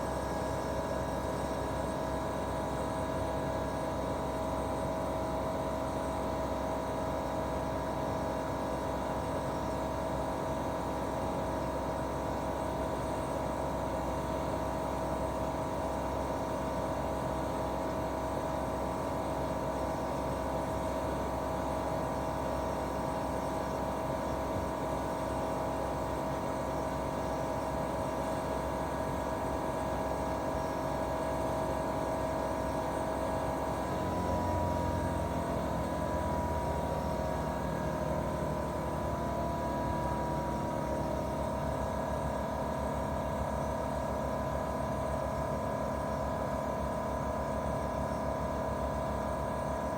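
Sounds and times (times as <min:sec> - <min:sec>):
air conditioner outdoor unit humming: 0:00.0 - 0:49.9.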